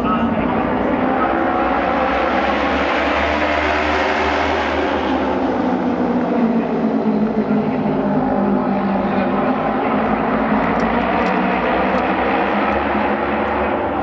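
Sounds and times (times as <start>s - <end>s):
racing motorcycles at high revs: 0.0s - 14.0s.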